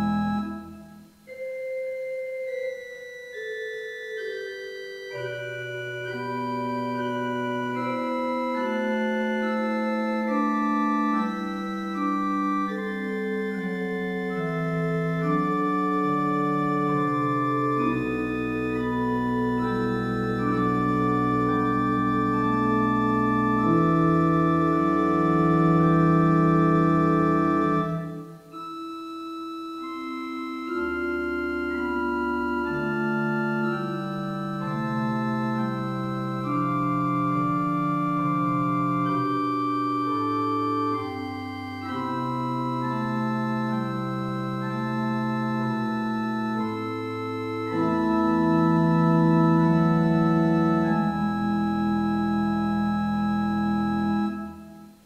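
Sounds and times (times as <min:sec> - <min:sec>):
church organ chords: 0:00.0 - 0:55.0
deep organ pedal bass: 0:00.0 - 0:55.0.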